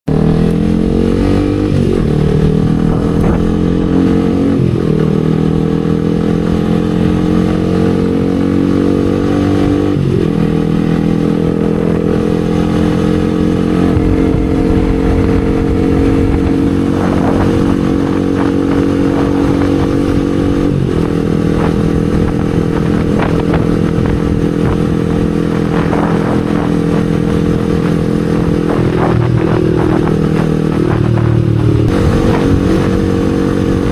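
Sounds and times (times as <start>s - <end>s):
motorcycle engine shifting gears: 0.1s - 33.9s.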